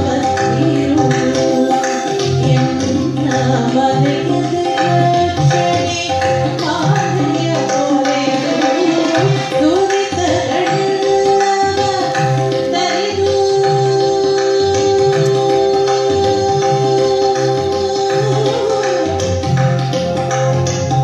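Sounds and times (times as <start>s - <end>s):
woman singing devotional song: 0.0s - 19.4s
tabla: 0.0s - 21.0s.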